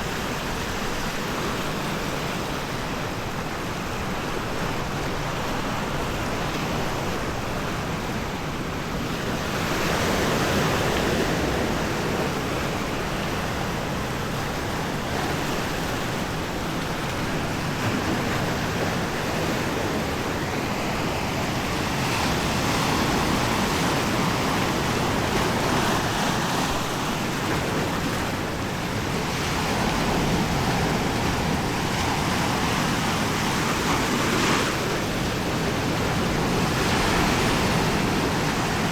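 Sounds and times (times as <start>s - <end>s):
waves washing onto beach: 0.0s - 38.9s.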